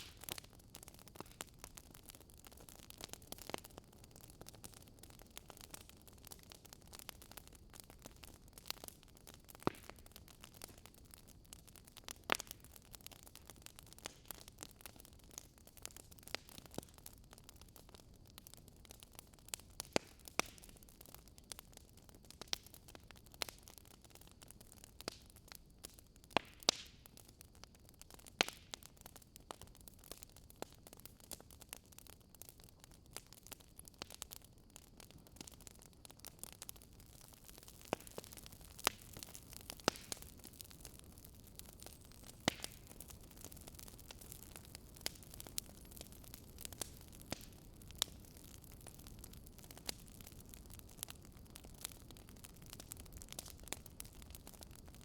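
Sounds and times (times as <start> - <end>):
faint steady hiss: 0.0 - 55.0
fire crackling and popping: 0.0 - 55.0.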